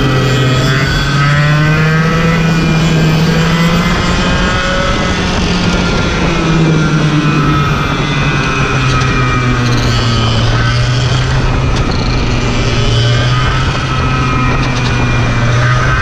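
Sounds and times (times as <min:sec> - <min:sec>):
kart engine at high revs: 0:00.0 - 0:16.0.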